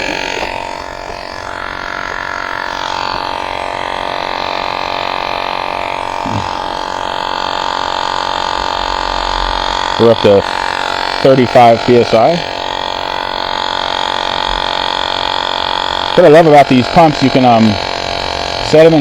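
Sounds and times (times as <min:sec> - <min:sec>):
electric tire pump droning: 0:00.0 - 0:19.0.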